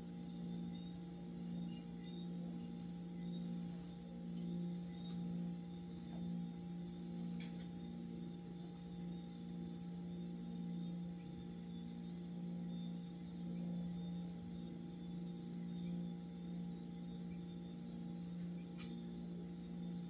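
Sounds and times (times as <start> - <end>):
low hum with higher tones: 0.0 - 20.0.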